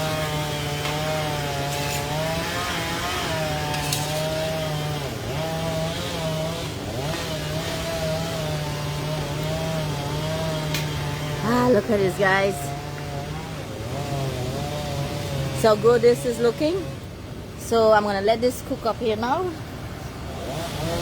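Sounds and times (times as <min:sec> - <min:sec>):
chainsaw cutting: 0:00.0 - 0:21.0.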